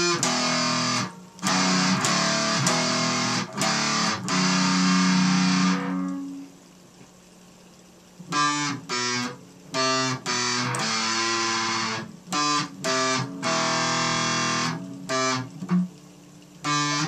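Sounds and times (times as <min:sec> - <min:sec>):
distorted electric guitar: 0:00.0 - 0:06.6, 0:08.2 - 0:17.0.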